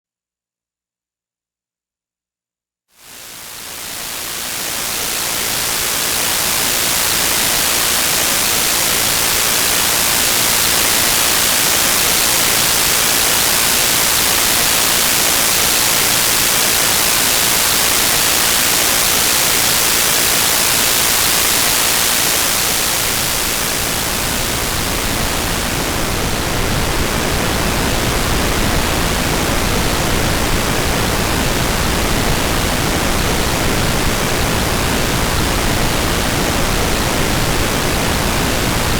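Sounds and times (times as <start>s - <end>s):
pink noise: 3.0s - 38.9s
white noise hiss: 3.0s - 38.9s.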